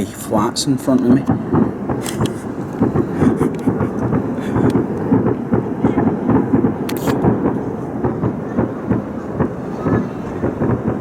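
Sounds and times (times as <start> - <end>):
sharp crack: 0.9 - 11.0
loud bangs echoing: 1.2 - 11.0.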